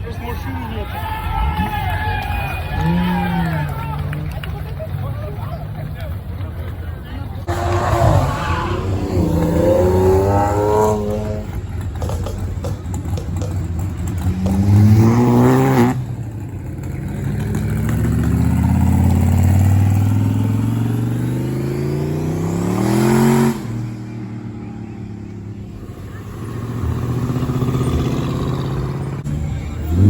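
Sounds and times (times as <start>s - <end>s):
car engines revving hard: 2.6s - 6.5s, 7.4s - 30.0s.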